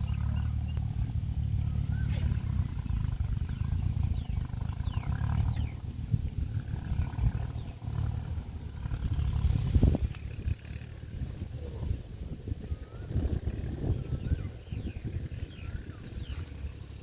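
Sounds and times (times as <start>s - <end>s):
tractor engine rough rumble: 0.0s - 17.0s.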